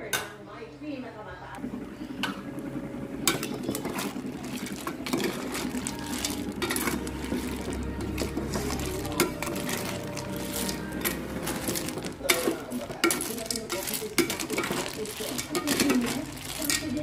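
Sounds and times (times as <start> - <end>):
boiling liquid bubbling: 1.4 - 17.0
snail shells clattering in pot: 3.1 - 17.0.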